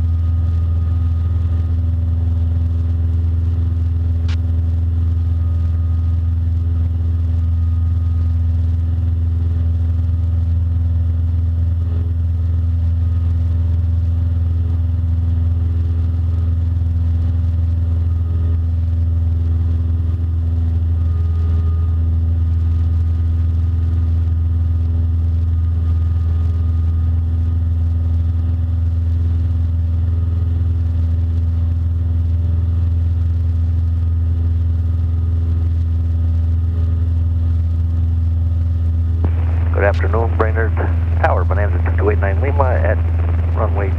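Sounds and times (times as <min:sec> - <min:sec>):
airplane engine and propeller droning: 0:00.0 - 0:43.9.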